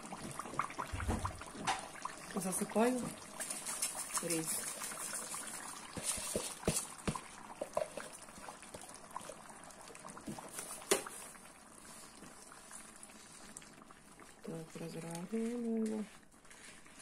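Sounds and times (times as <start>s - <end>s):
broth bubbling: 0.0s - 17.0s
rice pouring into liquid: 0.0s - 17.0s.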